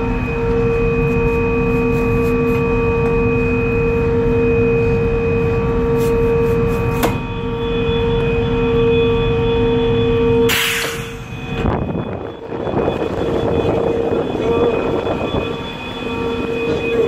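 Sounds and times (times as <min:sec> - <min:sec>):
ferry engines humming: 0:00.0 - 0:17.0.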